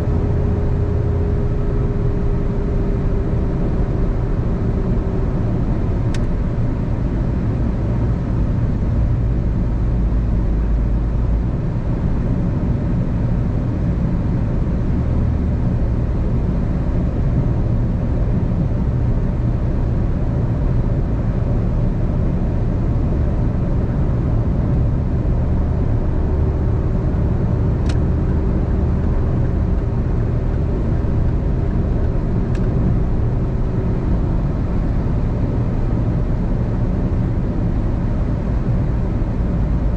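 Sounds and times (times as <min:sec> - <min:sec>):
faint engine hum: 0:00.0 - 0:39.9.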